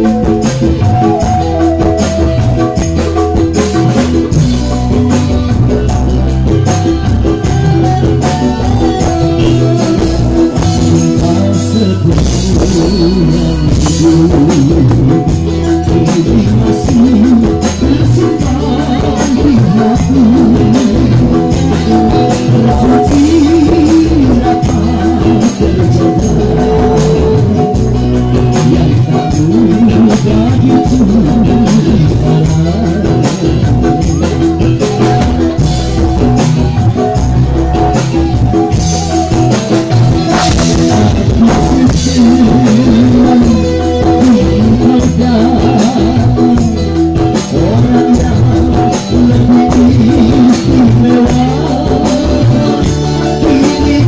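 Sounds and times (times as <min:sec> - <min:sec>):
amplified singing: 0:00.0 - 0:54.0
live band playing: 0:00.0 - 0:54.0.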